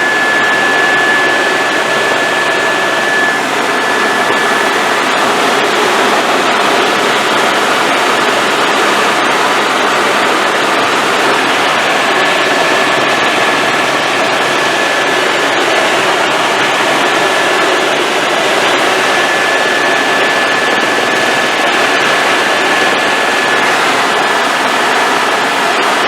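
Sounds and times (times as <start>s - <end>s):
helicopter engine noise: 0.0s - 26.0s
thin high whine: 0.0s - 26.0s.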